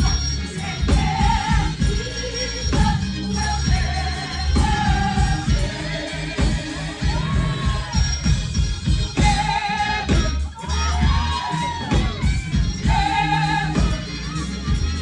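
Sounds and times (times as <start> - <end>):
bass: 0.0 - 15.0
drum beat: 0.0 - 15.0
people singing: 0.0 - 15.0.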